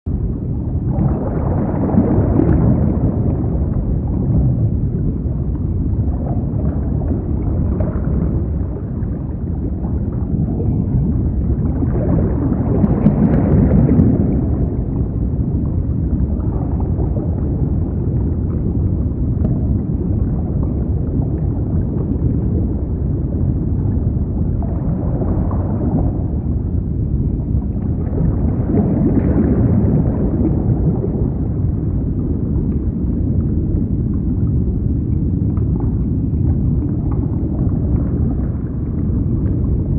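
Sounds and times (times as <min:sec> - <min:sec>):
underwater rumble of moving water: 0:00.0 - 0:39.9.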